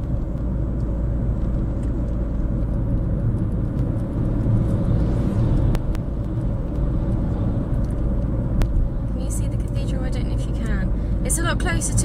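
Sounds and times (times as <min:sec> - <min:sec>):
car engine and tyre rumble: 0:00.0 - 0:12.0
passing lorry whoosh: 0:00.0 - 0:12.0.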